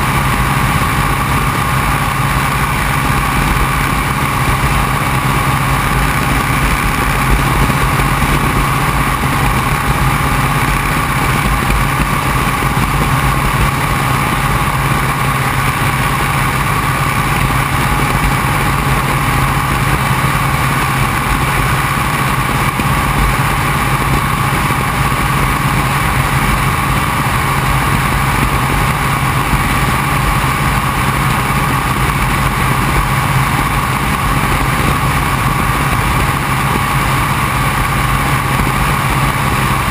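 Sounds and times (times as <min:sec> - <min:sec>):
propeller plane engine droning: 0:00.0 - 0:39.9
rushing airflow: 0:00.0 - 0:39.9.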